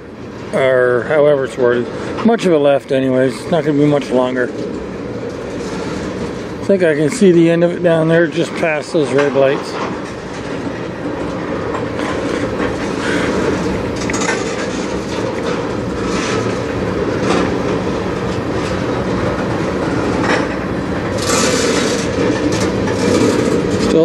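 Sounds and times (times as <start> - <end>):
wheels rumbling on rail: 0.0 - 24.0
wheel clacks: 3.3 - 24.0.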